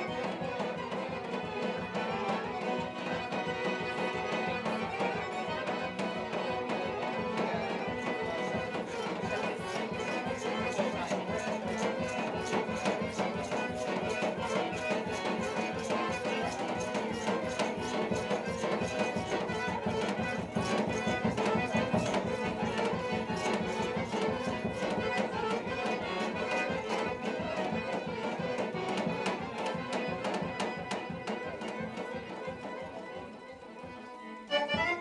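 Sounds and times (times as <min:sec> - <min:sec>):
folk dance music with violin: 0:00.0 - 0:35.0.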